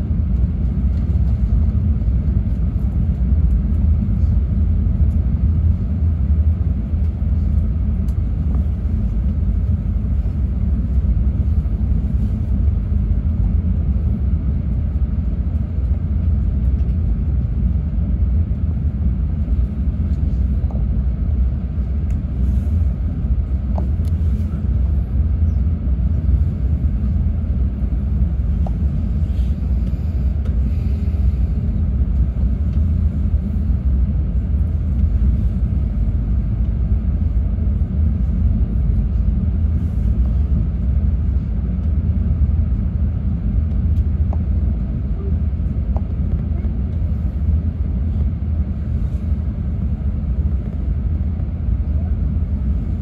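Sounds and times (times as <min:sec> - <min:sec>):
train running rumble from inside: 0:00.0 - 0:53.0.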